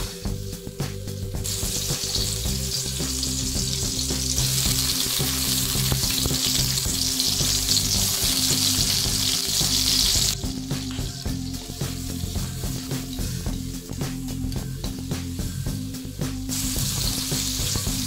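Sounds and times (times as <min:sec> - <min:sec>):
vegetables sizzling in oil: 0:01.4 - 0:18.0.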